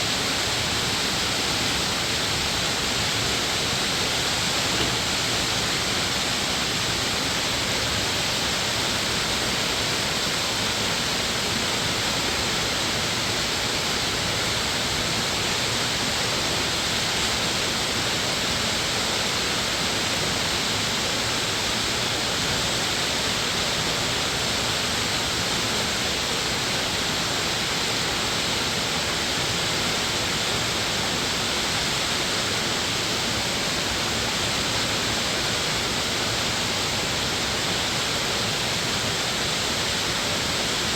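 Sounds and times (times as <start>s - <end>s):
stream and waterfall rushing: 0.0s - 40.9s.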